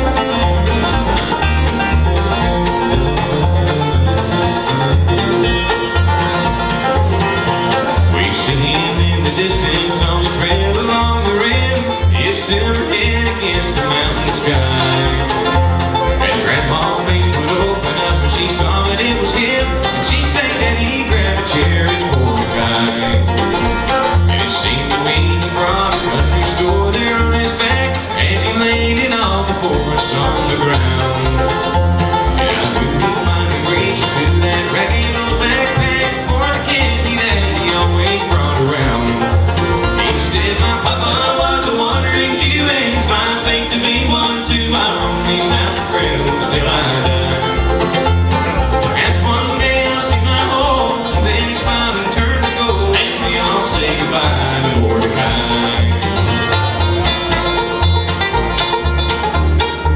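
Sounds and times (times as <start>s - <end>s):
bowed fiddle: 0.0s - 59.9s
pulsing bass line: 0.0s - 59.9s
rolling banjo: 0.0s - 59.9s
strummed guitar: 0.0s - 59.9s.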